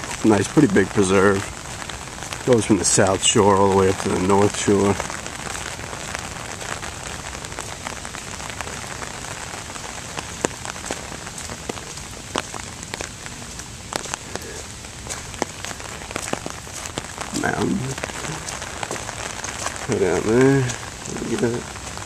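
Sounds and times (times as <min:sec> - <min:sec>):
rain falling: 0:00.0 - 0:22.0
raindrops tapping close by: 0:00.0 - 0:22.0.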